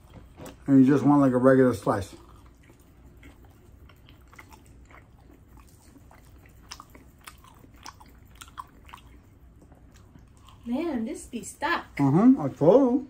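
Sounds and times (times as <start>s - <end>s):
person chewing pizza: 0.0s - 10.8s.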